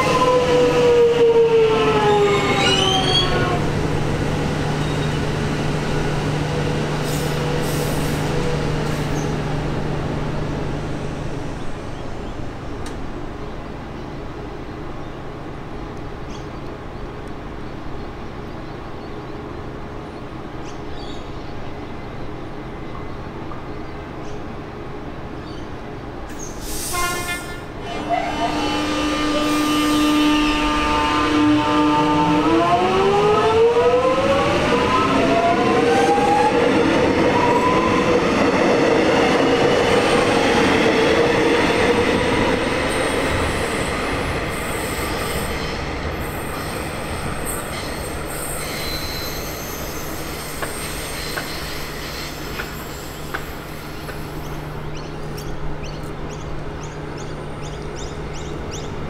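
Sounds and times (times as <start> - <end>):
train humming: 0.0 - 59.0
train rolling on rails: 0.0 - 59.0.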